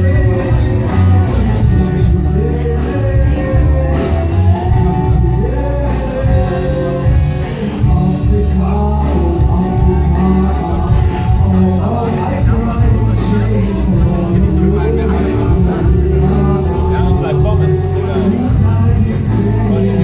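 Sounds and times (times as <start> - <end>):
heavy bass line: 0.0 - 20.0
live band playing amplified music: 0.0 - 20.0
person singing: 0.0 - 20.0.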